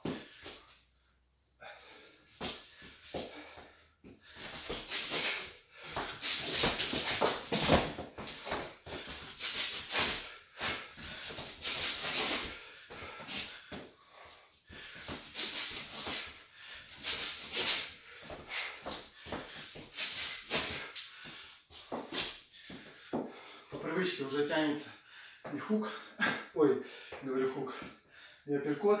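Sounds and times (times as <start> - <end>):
sharp exhalations: 1.5 - 28.5.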